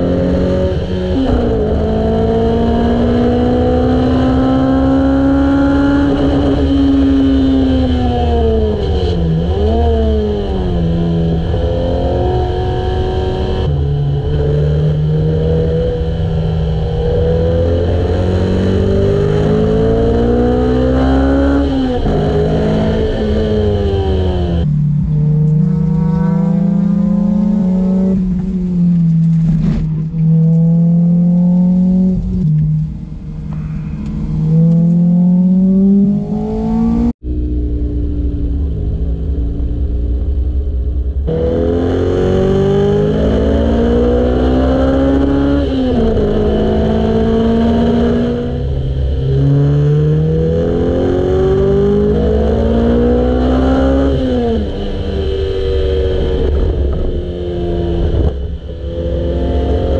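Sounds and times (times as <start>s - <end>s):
sports car engine accelerating: 0.0s - 59.9s.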